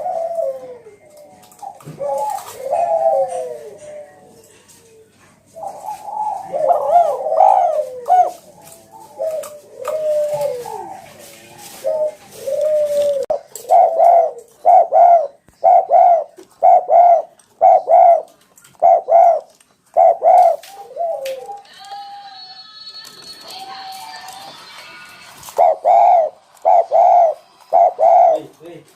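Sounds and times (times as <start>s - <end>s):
doves cooing: 0.0s - 22.2s, 25.4s - 28.8s.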